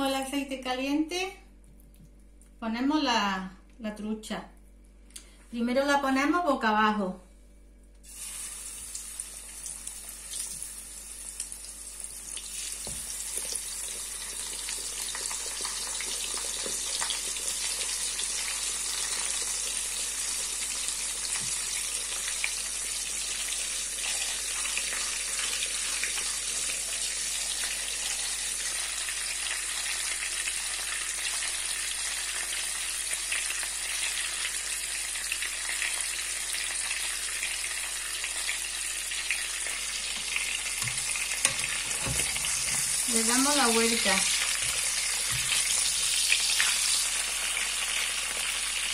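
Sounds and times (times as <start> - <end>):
fish frying in hot oil: 8.0 - 48.9.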